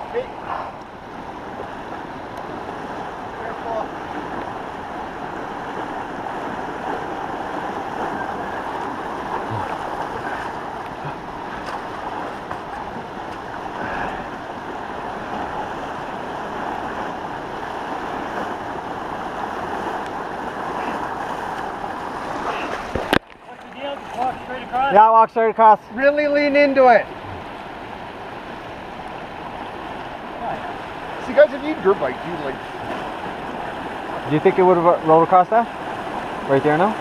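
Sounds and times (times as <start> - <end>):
floodwater rushing through creek: 0.0 - 37.0.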